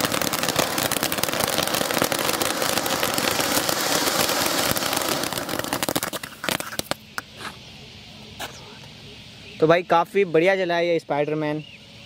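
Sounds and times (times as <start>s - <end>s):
firecracker hissing and crackling: 0.0s - 11.1s.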